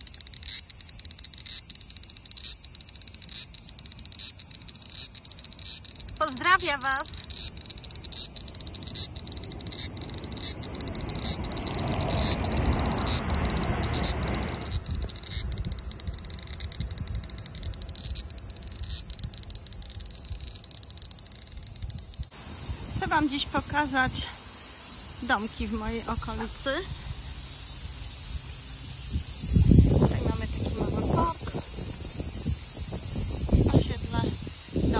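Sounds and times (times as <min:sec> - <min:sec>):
cicadas shrilling: 0:00.0 - 0:34.9.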